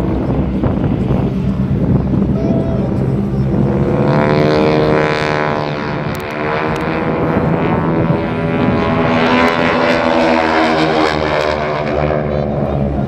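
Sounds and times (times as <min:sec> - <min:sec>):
propeller aircraft flying overhead: 0:00.0 - 0:13.0.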